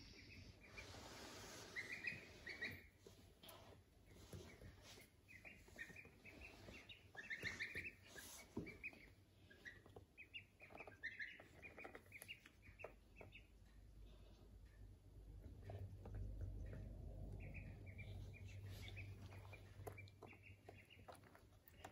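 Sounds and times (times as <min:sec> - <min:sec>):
ducklings peeping: 0:00.0 - 0:21.9.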